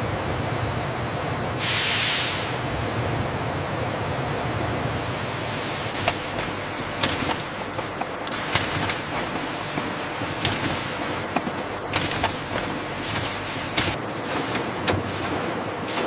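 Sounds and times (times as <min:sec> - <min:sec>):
factory machinery running: 0:00.0 - 0:16.0.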